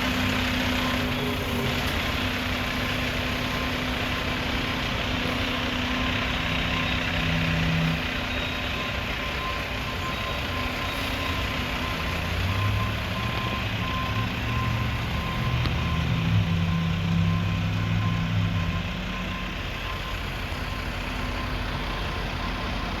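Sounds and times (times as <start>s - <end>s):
diesel engine: 0.0s - 23.0s
truck reverse alarm beeping: 0.0s - 23.0s.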